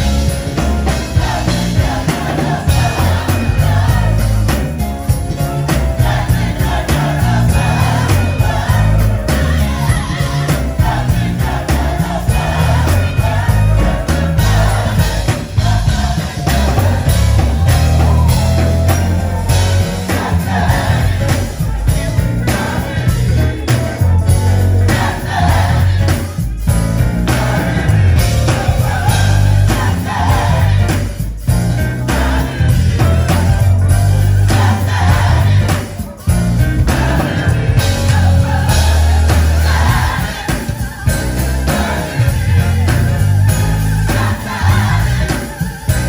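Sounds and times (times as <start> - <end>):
band with heavy bass: 0.0 - 46.0
choir singing: 0.0 - 46.0.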